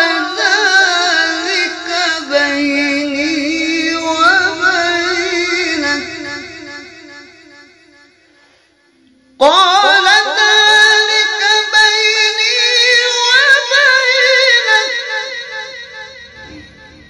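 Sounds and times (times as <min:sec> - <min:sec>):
man chanting unaccompanied: 0:00.0 - 0:08.4, 0:09.0 - 0:17.0.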